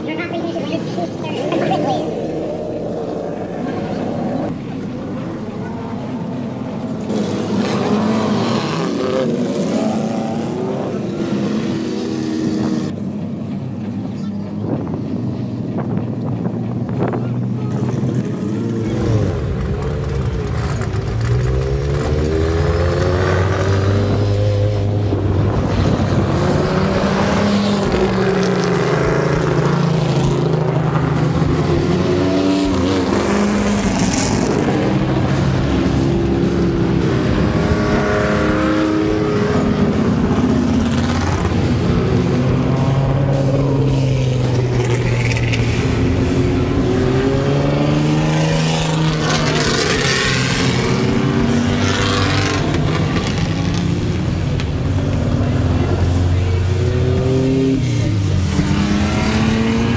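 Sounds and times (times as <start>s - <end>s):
cars driving past: 0.0s - 59.9s
race car engines revving: 0.0s - 59.9s.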